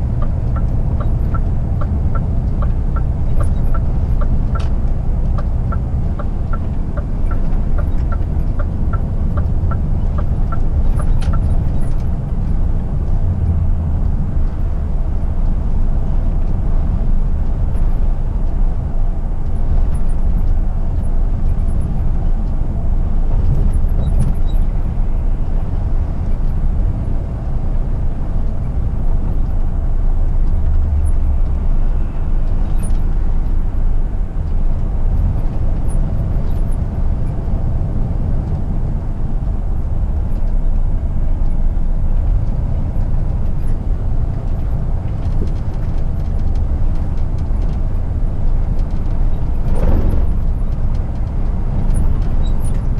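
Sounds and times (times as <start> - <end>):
road noise: 0.0 - 52.9
truck diesel engine rumbling: 0.0 - 52.9.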